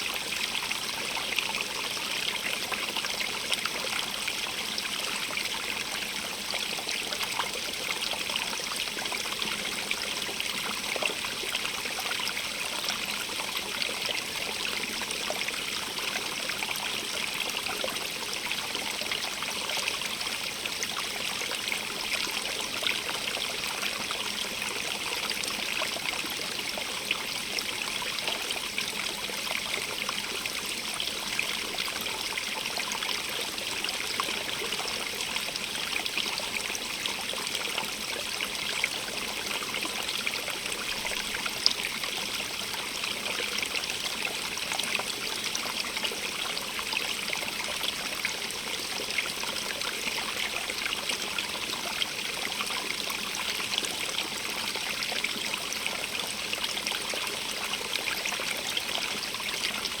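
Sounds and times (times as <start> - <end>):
stream bubbling over stones: 0.1 - 60.0.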